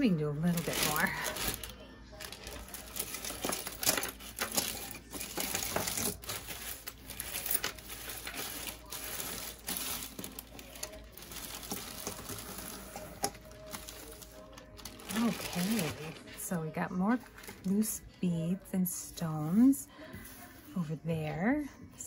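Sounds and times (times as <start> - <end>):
plastic bags crinkling: 0.0 - 18.1.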